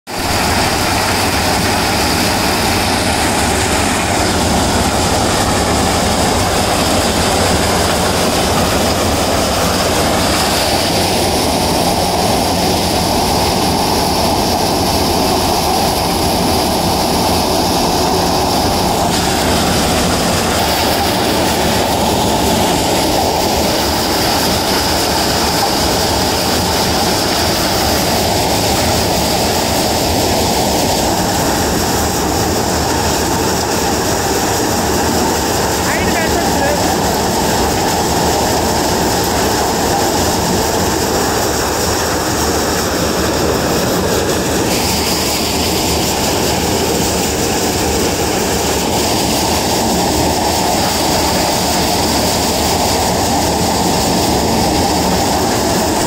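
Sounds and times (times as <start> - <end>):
thresher running: 0.1 - 56.0.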